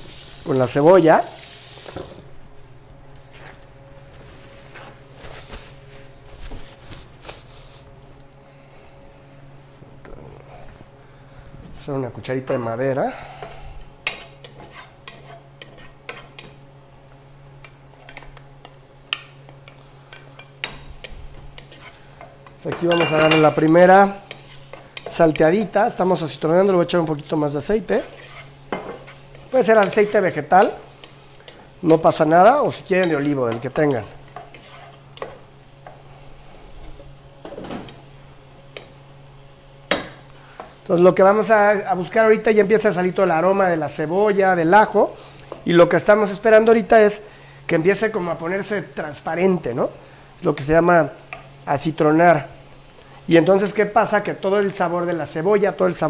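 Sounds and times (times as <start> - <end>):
onion sizzling in oil: 0.0 - 2.3, 13.4 - 56.0
faint hum: 0.0 - 55.9.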